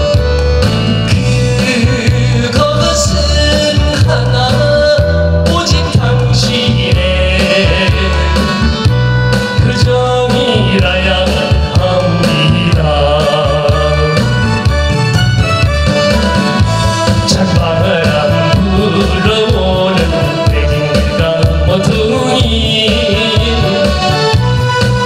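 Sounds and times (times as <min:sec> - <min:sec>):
backing music with bass and drums: 0:00.0 - 0:25.0
man singing into a microphone: 0:01.0 - 0:14.8, 0:16.6 - 0:25.0.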